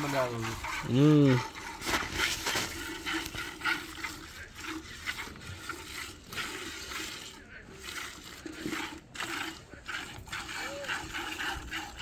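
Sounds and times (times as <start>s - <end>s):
milk squirting into metal bucket: 0.0s - 12.0s.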